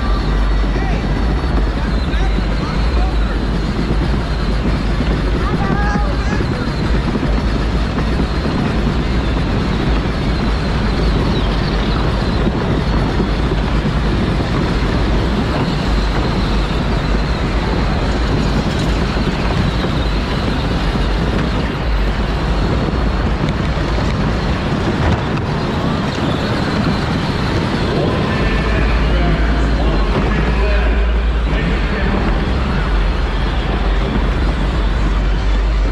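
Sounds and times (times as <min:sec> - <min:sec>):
faint high whine: 0:00.0 - 0:35.9
toy car drive rumbling: 0:00.0 - 0:35.9
wind buffeting on microphone: 0:00.0 - 0:35.9.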